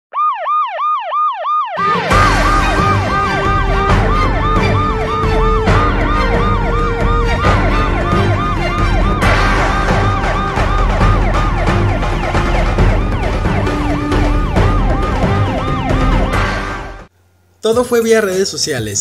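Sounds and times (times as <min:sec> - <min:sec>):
electronic yelp siren: 0:00.1 - 0:17.1
bass-heavy music track: 0:01.8 - 0:17.1.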